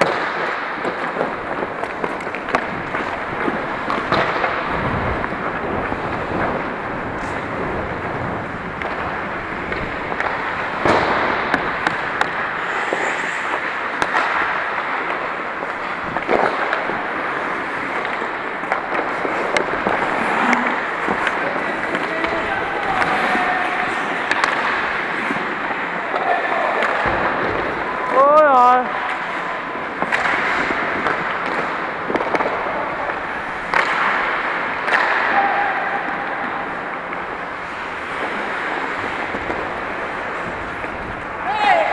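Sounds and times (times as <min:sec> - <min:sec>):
hockey sticks and puck clacking: 0:00.0 - 0:41.9
skates scraping on ice: 0:00.0 - 0:41.9.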